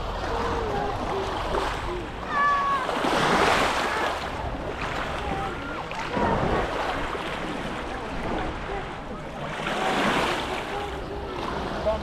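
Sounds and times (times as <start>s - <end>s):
faint distant voices: 0.0s - 12.0s
waves washing onto shore: 0.0s - 12.0s.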